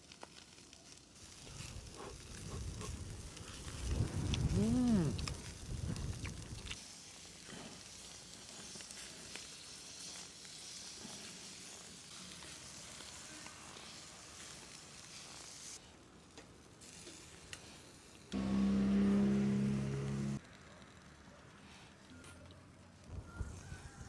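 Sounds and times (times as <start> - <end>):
food sizzling in a pan: 0.0 - 20.4.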